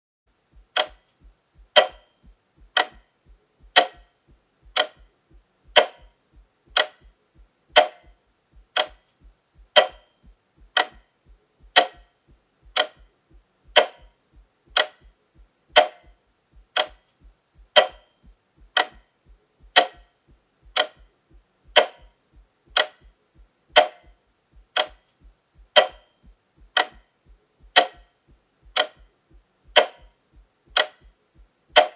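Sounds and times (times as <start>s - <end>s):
clock ticking: 0.4s - 31.9s.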